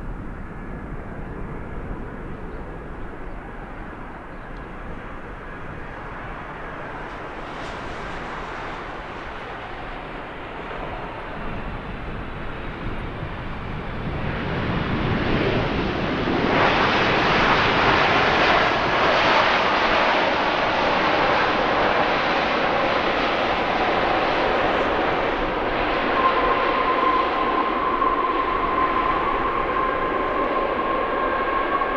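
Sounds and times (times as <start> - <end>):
jet engines noise: 0.0 - 31.9.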